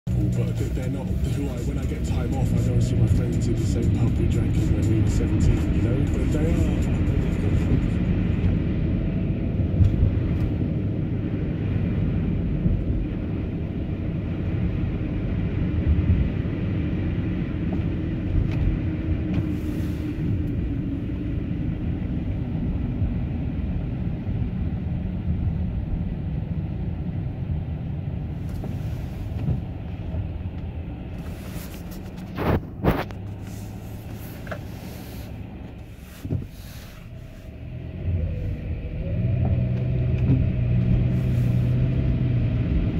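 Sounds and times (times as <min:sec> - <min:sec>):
car road and engine rumble: 0:00.0 - 0:42.9.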